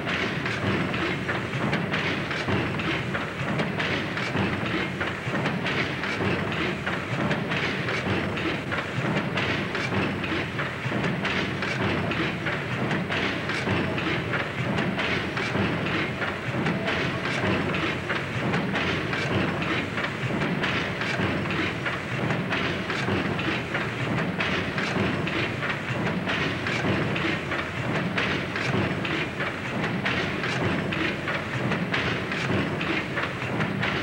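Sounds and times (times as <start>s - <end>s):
rhythmic clatter and knocking: 0.0s - 34.0s.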